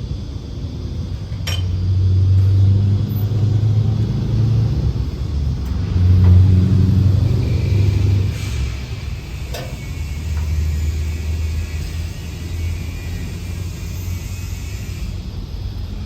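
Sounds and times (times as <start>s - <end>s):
truck engine running: 0.7s - 16.0s.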